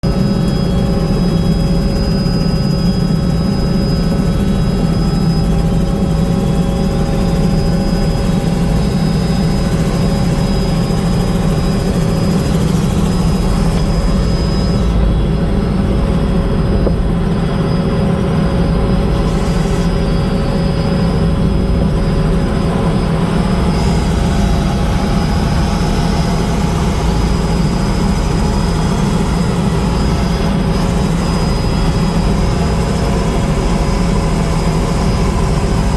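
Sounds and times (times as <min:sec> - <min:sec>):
helicopter engine and rotor: 0:00.0 - 0:35.9
thin high whine: 0:00.0 - 0:35.9.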